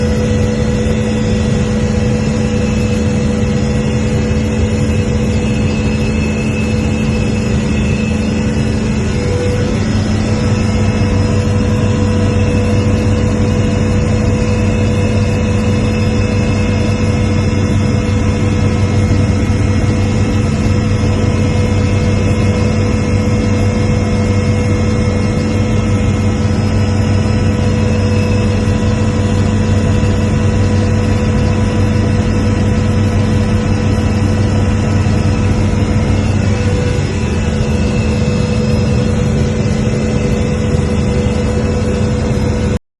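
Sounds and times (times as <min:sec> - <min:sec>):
low drone: 0:00.0 - 0:42.8
steady rushing noise: 0:00.0 - 0:42.8.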